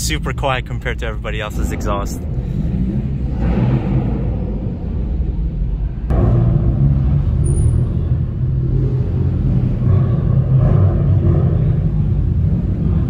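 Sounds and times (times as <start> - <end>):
car engines rumbling in a garage: 0.0 - 13.0.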